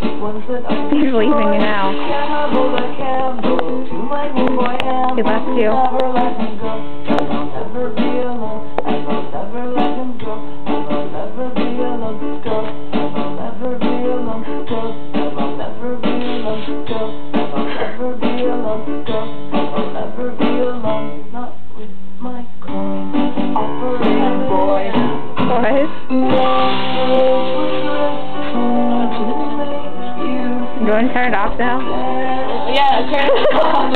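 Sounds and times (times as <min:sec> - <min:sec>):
guitar-led music with steady beat: 0:00.0 - 0:21.3, 0:22.6 - 0:33.9.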